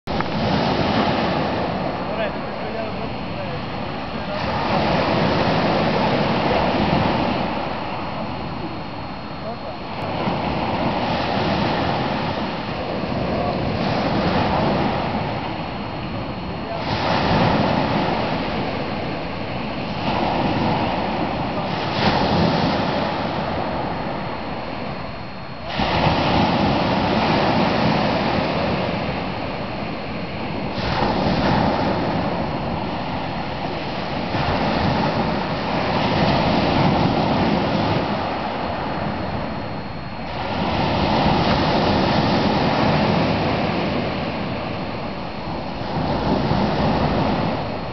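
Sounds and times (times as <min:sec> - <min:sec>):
waves breaking on stony shore: 0:00.1 - 0:47.9.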